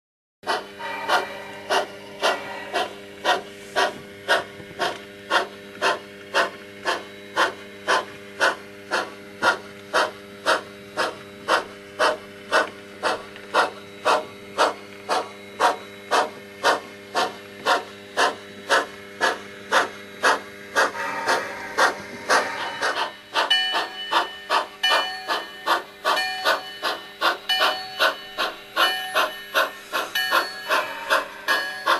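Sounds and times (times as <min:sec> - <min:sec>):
model train steam chuffs: 0:00.5 - 0:31.9.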